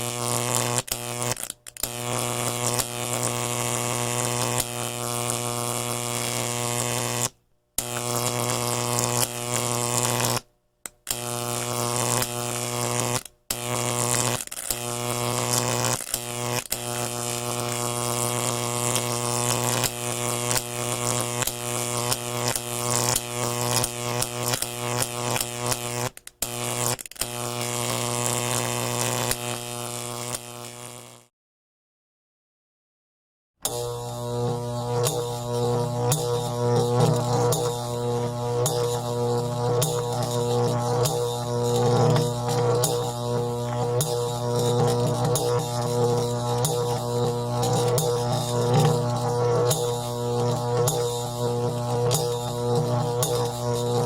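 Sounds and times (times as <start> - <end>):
electrical buzzing hum: 0.0 - 7.2, 11.2 - 31.2, 33.7 - 54.0
crackling sparks and zaps: 0.0 - 10.4, 11.1 - 31.2, 33.7 - 54.0.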